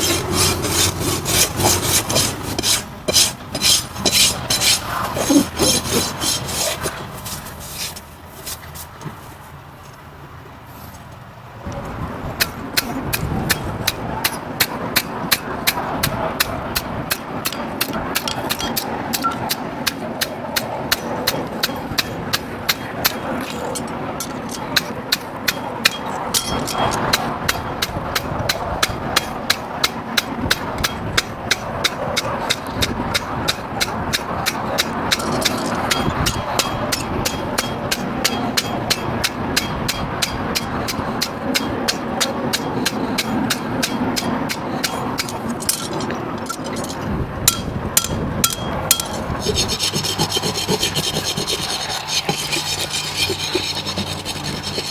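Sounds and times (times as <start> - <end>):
continuous background noise: 0.0 - 54.9.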